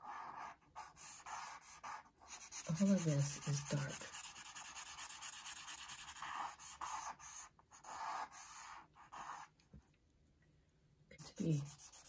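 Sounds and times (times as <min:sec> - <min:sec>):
charcoal scratching on paper: 0:00.0 - 0:09.5, 0:11.2 - 0:12.0.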